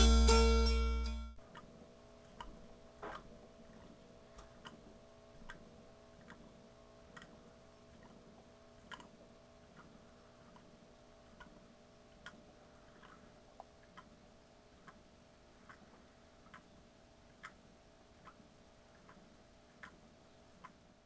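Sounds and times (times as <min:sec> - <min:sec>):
faint air pump hum: 0:00.0 - 0:21.0.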